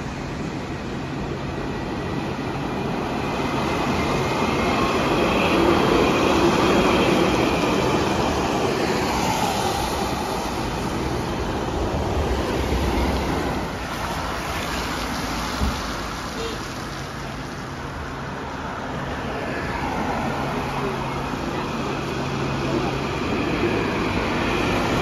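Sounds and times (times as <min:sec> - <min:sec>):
tram passing on rails: 0:00.0 - 0:25.0.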